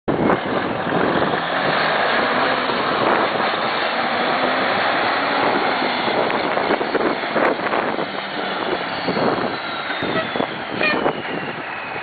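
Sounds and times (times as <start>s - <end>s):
truck diesel engine running: 0.1s - 12.0s
wind noise on microphone: 0.1s - 12.0s.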